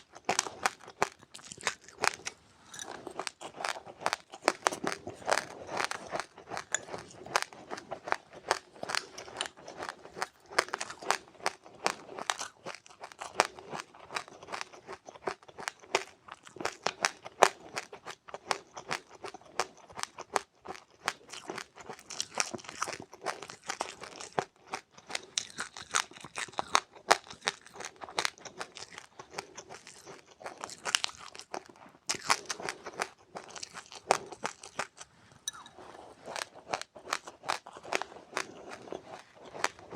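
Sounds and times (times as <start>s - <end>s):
crunching and chewing dry seeds: 0.0s - 39.9s.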